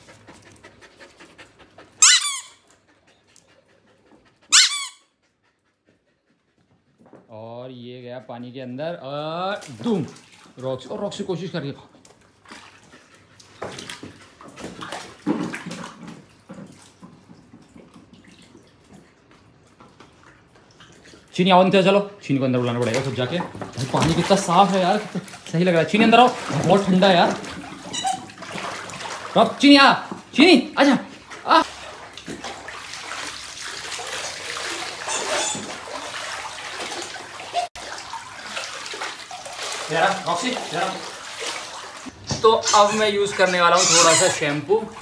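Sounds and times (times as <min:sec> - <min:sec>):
water splashing in a paddling pool: 0:00.0 - 0:04.9, 0:08.8 - 0:45.0.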